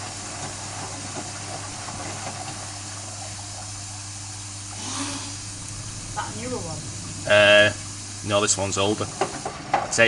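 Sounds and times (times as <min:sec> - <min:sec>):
washing machine drum rushing: 0:00.0 - 0:10.0.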